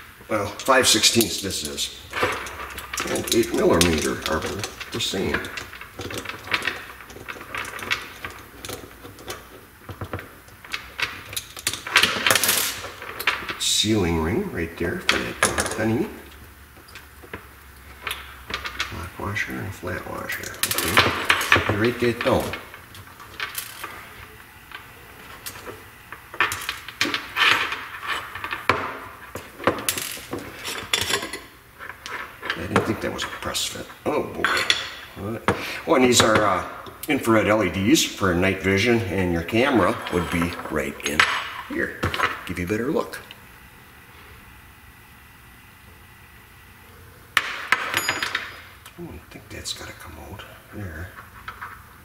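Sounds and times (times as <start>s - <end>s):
parts scraping: 0.0s - 43.4s.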